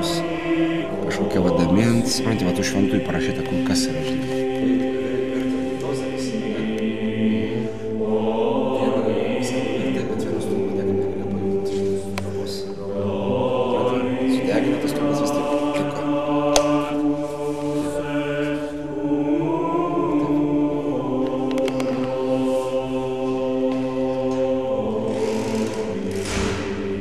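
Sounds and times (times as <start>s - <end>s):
choir singing long held notes: 0.0s - 27.0s.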